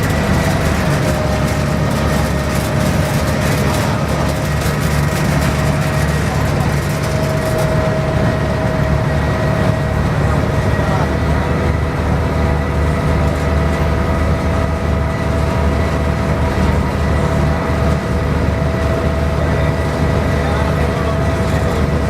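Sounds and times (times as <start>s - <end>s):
ferry engine drone: 0.0s - 22.0s.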